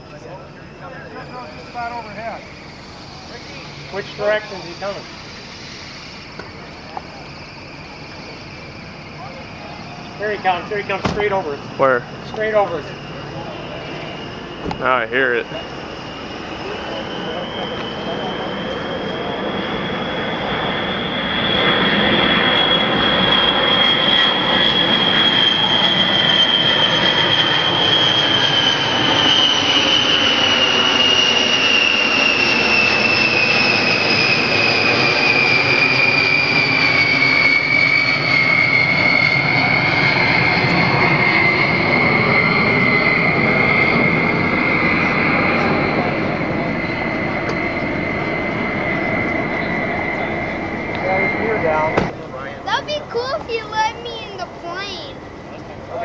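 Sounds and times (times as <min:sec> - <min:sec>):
jet bomber flyover: 0:00.0 - 0:56.0.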